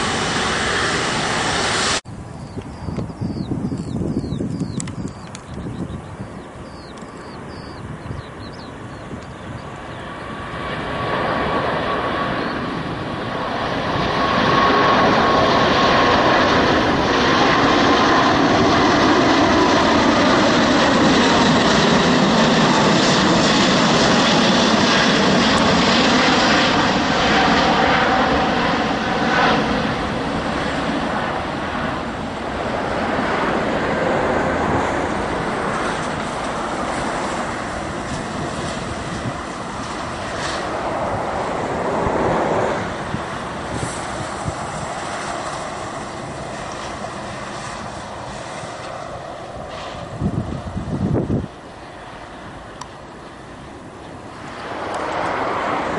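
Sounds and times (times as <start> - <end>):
jet engine roar: 0.0 - 55.9
jet engine whine: 0.0 - 55.9.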